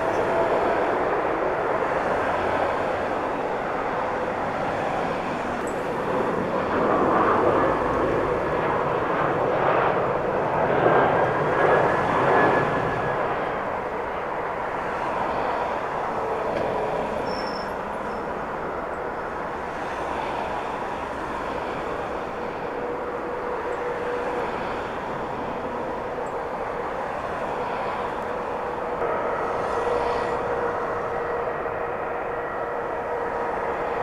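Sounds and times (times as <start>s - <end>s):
faint engine whine: 0.0s - 34.0s
jet engines rushing: 0.0s - 34.0s.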